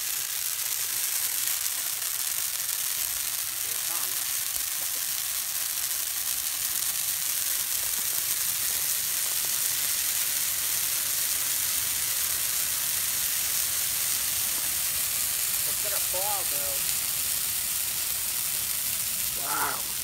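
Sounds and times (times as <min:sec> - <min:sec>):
fire hissing: 0:00.0 - 0:20.0.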